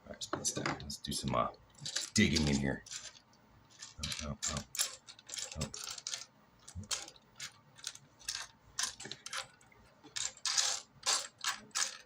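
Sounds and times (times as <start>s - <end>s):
plastic bricks clattering: 1.8s - 12.0s.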